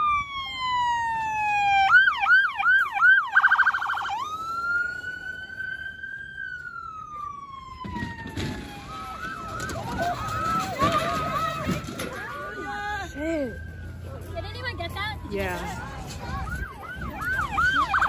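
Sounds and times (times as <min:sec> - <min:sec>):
police siren: 0:00.0 - 0:18.0.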